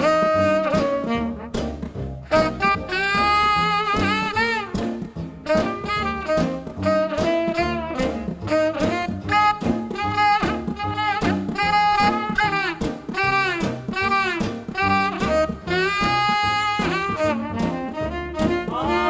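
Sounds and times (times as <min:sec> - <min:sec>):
band rhythm section: 0:00.0 - 0:19.0
saxophone lead line: 0:00.0 - 0:19.0.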